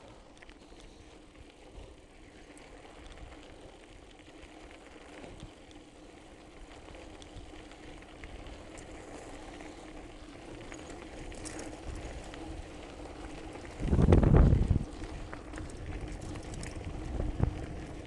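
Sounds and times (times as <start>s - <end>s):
bike clicks and rattles: 0.0s - 18.0s
bike tyres crunching on gravel: 0.0s - 18.0s.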